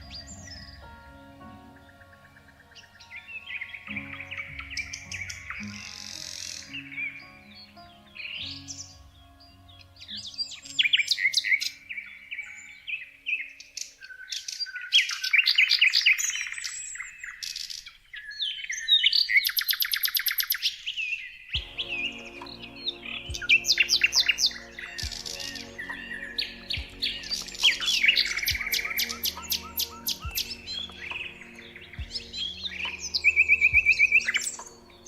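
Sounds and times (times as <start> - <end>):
songbirds chirping and singing: 0.0 - 35.0.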